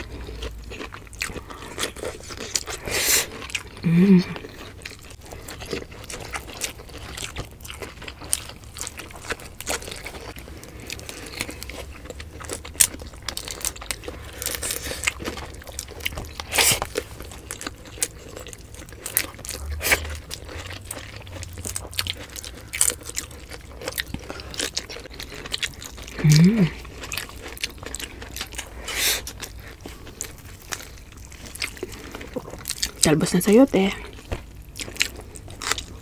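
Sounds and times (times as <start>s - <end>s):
loud food crunch: 0.0s - 36.0s
wet chewing and smacking: 0.0s - 36.0s.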